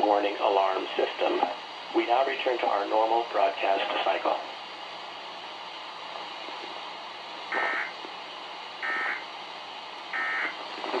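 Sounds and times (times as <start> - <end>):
radio speaker hiss: 0.0 - 11.0.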